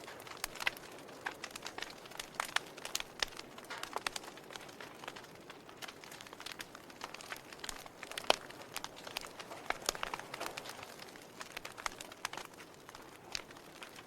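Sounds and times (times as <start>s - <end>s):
log fire crackling: 0.0s - 14.0s.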